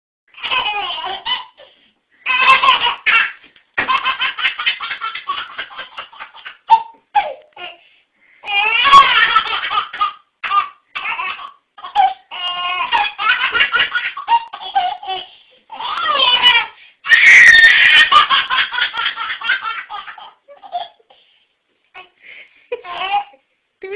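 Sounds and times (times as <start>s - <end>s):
baby laughing: 0.4s - 7.8s, 8.5s - 21.2s, 22.7s - 23.4s.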